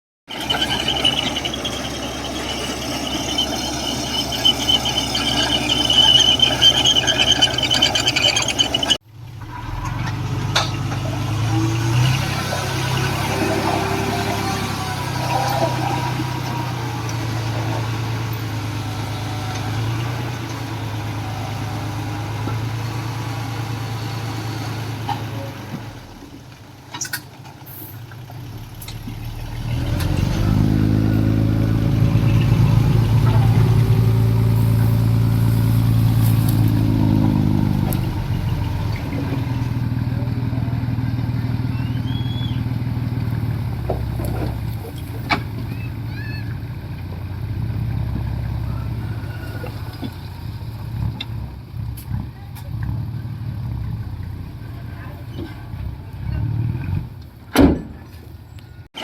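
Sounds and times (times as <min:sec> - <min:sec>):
heavy diesel engine running: 0:00.3 - 0:26.0, 0:28.2 - 0:55.2.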